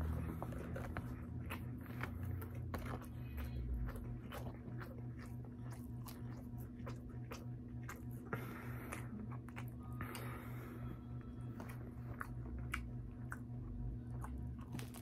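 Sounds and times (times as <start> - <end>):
low hum: 0.0 - 15.0
person chewing food: 0.0 - 15.0.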